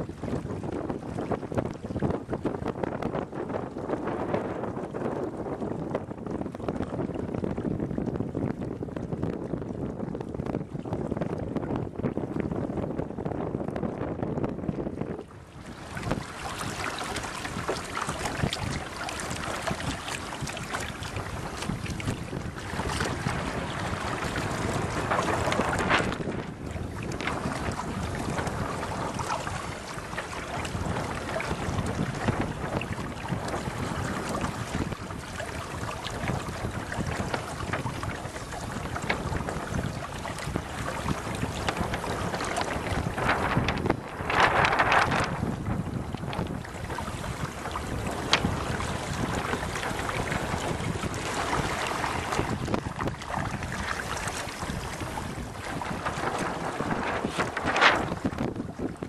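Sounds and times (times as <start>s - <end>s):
water slapping against hull: 0.0s - 59.0s
wind buffeting microphone: 0.0s - 59.0s.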